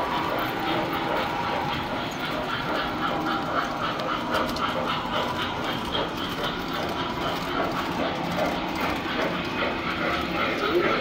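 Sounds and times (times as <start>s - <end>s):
model trains rumbling on track: 0.0s - 11.0s.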